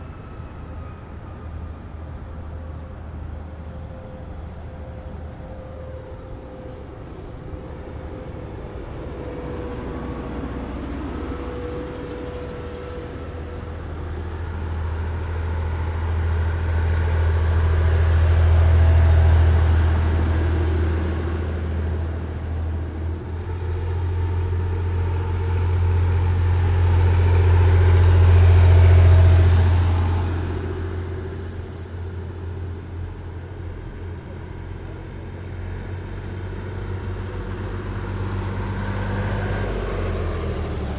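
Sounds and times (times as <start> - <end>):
heavy military vehicles driving past: 0.0 - 40.9.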